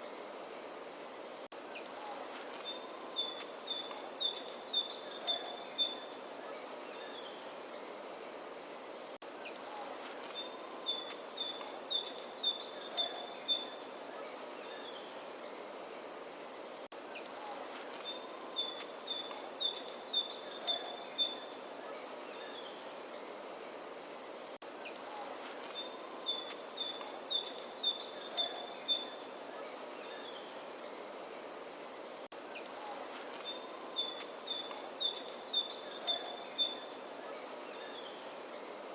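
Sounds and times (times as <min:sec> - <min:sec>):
songbird singing: 0:00.0 - 0:38.9
steady outdoor hiss: 0:00.0 - 0:38.9.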